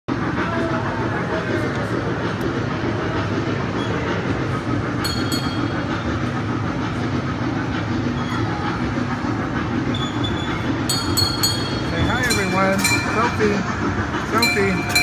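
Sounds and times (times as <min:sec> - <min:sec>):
ride-on train rumbling and rattling: 0:00.1 - 0:15.0.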